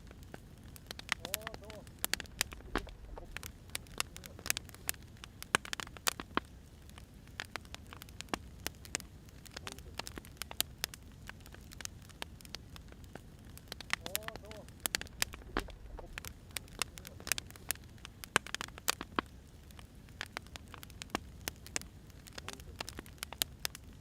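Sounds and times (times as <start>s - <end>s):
firewood crackling and popping: 0.0s - 24.0s
soft low hiss: 0.0s - 24.0s.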